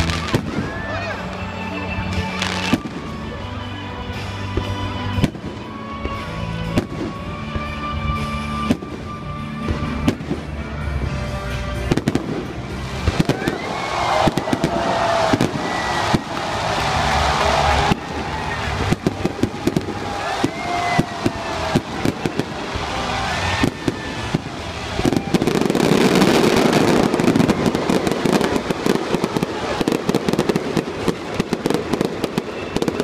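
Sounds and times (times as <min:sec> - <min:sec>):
fireworks whistles: 0:00.0 - 0:10.6, 0:11.5 - 0:33.0
fireworks bangs and crackling: 0:00.0 - 0:33.0.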